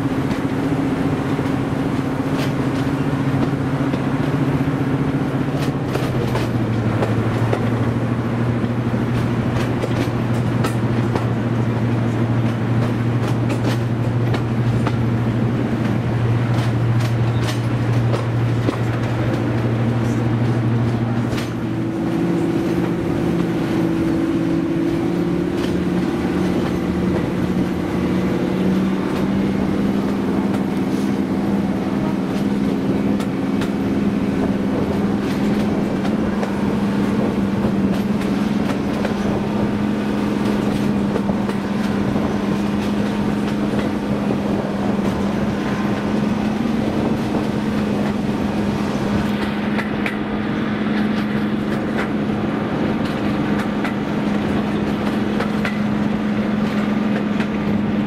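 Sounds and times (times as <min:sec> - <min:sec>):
diesel locomotive engine drone: 0:00.0 - 0:58.0.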